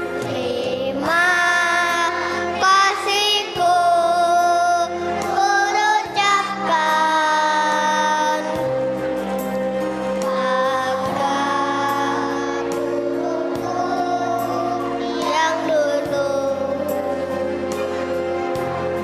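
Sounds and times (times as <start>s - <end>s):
children's choir singing: 0.0s - 9.0s, 10.0s - 19.0s
instrumental accompaniment: 0.0s - 19.0s.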